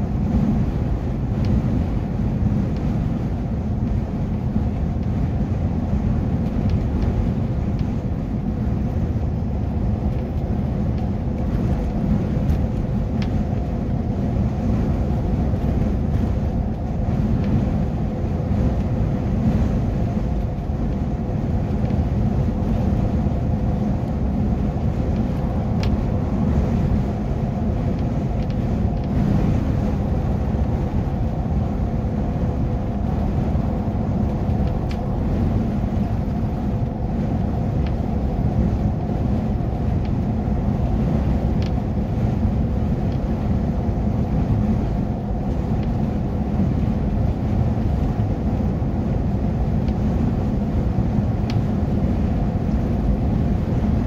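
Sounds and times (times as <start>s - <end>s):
vehicle engine drone: 0.0s - 54.0s.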